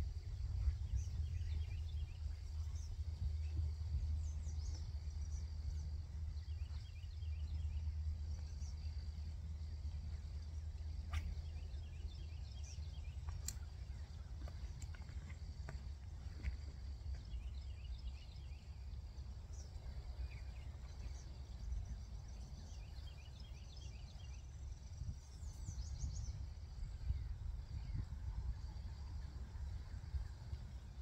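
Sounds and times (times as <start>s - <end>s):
low steady rumble: 0.0s - 31.0s
songbirds chirping: 0.0s - 31.0s.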